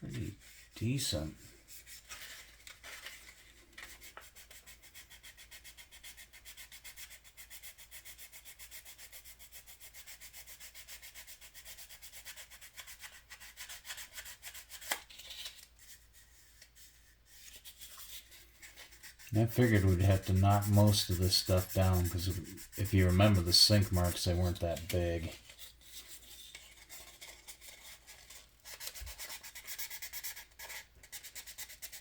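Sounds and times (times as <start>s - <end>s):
sandpaper rubbing on plastic: 0.3s - 2.6s, 3.9s - 32.0s.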